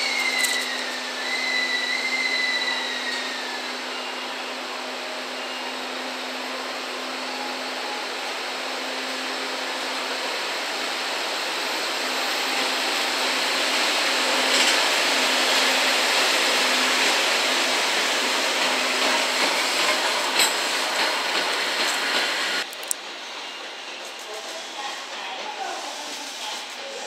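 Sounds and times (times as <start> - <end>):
locomotive cooling blowers hissing: 0.0 - 22.7.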